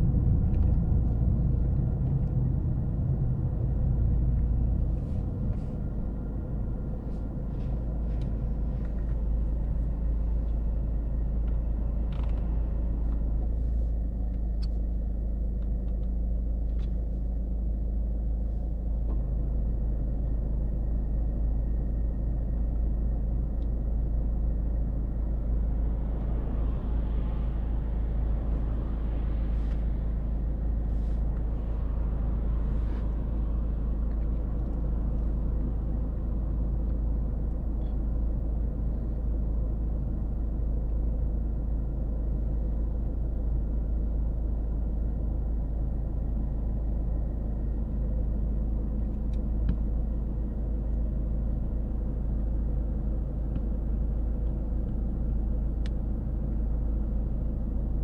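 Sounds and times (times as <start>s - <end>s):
road noise: 0.0s - 17.4s, 18.2s - 58.0s.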